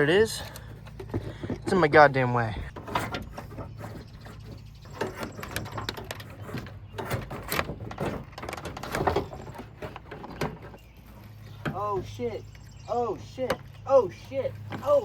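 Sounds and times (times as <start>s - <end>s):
hand tools clanking on metal: 0.0s - 15.0s.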